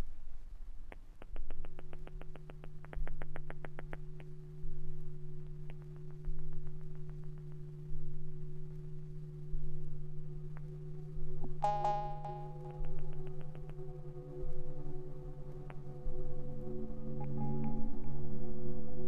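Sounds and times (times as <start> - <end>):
pulsing low rumble: 1.3 - 19.0
low synthesized drone: 1.4 - 19.0.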